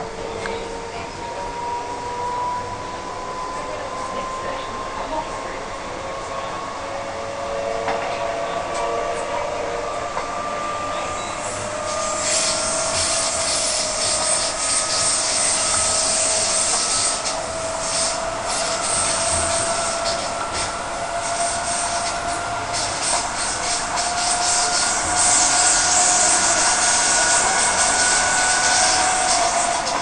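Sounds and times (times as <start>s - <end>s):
train traction motors whining: 0.0s - 30.0s
wheels rushing on rail: 0.0s - 30.0s.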